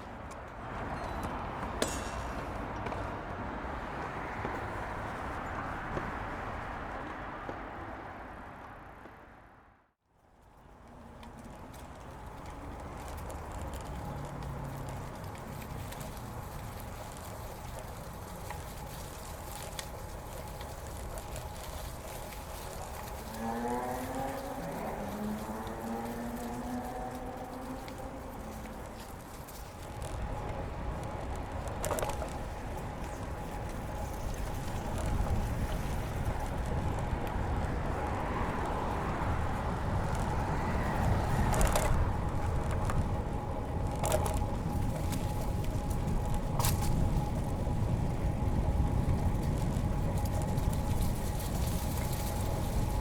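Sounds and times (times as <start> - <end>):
bike clicking: 0.0 - 9.2, 10.4 - 53.0
bicycle tyres rolling on pavement: 0.0 - 53.0.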